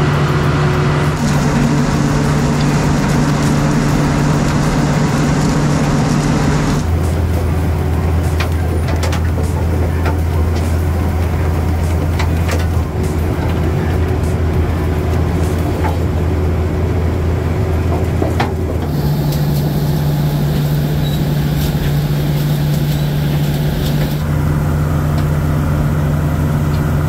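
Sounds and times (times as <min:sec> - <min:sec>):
harvester machinery drone: 0:00.0 - 0:27.0.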